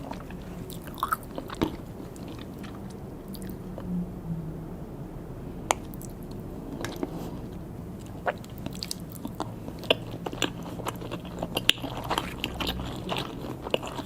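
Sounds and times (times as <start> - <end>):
person chewing: 0.0 - 3.9, 5.7 - 14.0
low hum: 0.0 - 13.8.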